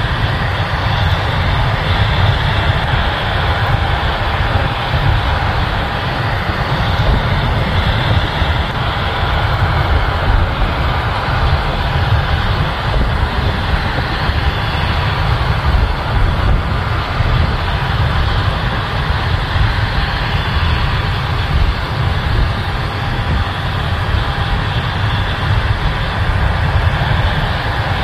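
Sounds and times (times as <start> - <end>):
combine and tractor running: 0.0 - 28.0
wind on microphone: 0.0 - 28.0.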